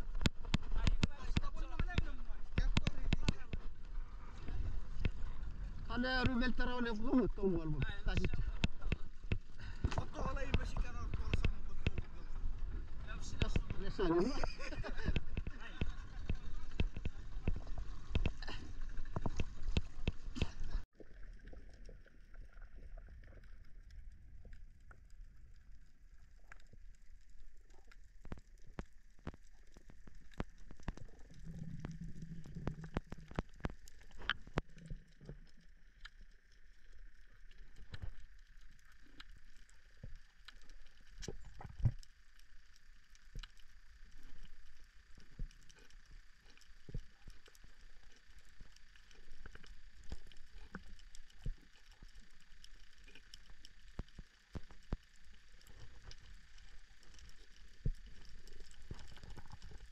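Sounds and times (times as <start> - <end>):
faint steady hum: 0.0 - 59.9
low underwater rumble: 0.0 - 59.9.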